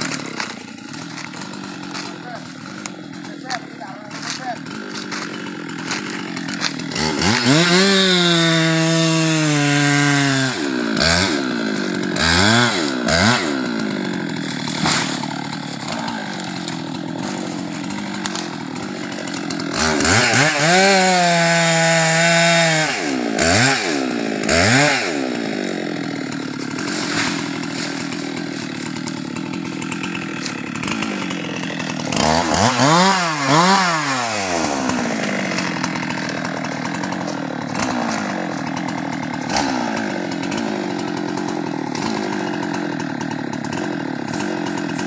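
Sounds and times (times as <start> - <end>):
chainsaw cutting wood: 0.0 - 45.0.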